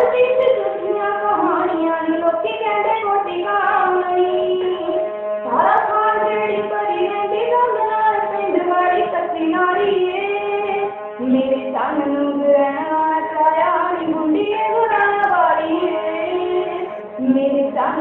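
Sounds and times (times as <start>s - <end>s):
young woman singing: 0.0s - 18.0s.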